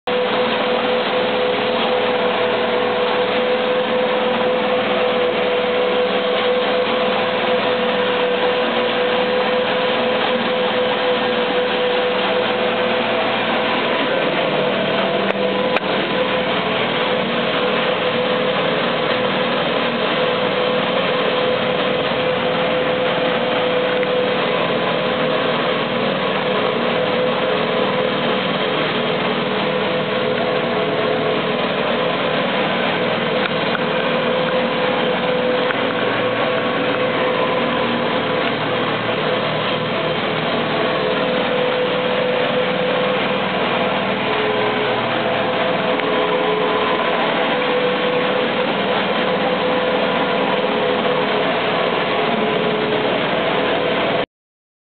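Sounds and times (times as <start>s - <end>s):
paddles churning water: 0.0s - 54.2s
electric motor whine: 0.1s - 54.2s.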